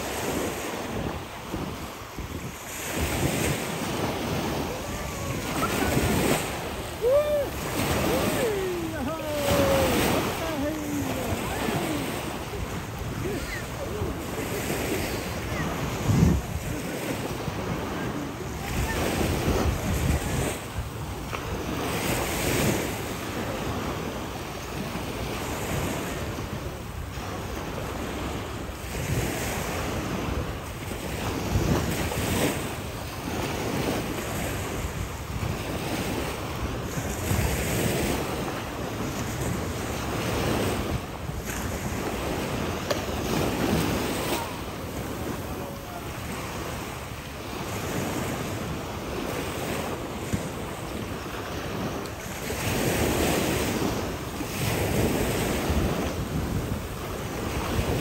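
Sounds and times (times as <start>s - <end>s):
sea surf washing onto beach: 0.0s - 58.0s
wind on microphone: 0.0s - 58.0s.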